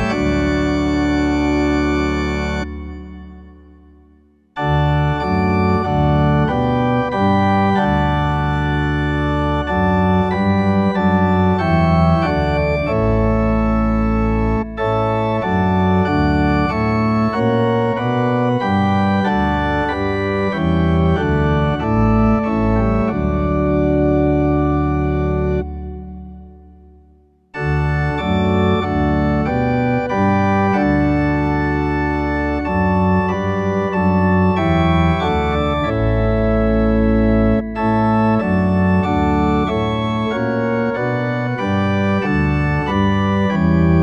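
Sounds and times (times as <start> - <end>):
organ playing a hymn: 0.0 - 44.0.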